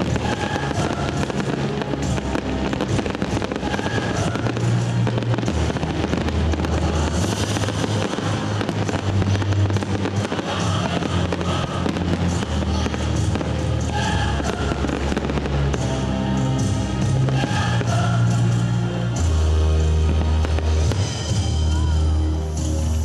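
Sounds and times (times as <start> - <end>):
fireworks bursting and crackling: 0.0 - 23.0
music with low bass notes: 0.0 - 23.0.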